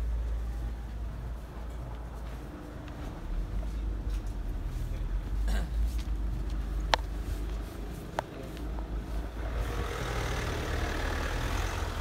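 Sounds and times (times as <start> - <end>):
car engine passing slowly: 0.0 - 12.0
road and tyre noise: 0.0 - 12.0.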